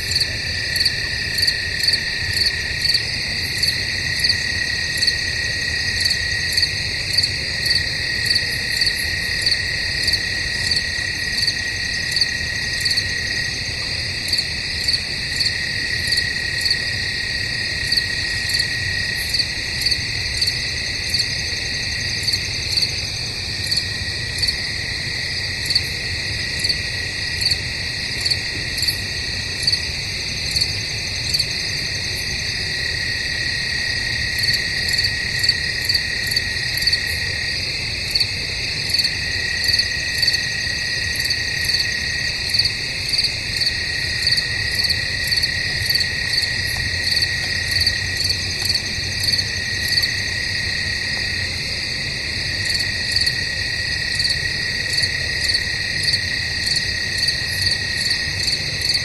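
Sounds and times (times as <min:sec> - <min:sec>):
crickets trilling: 0:00.0 - 0:59.0
pulsed cricket chirps: 0:00.0 - 0:59.0.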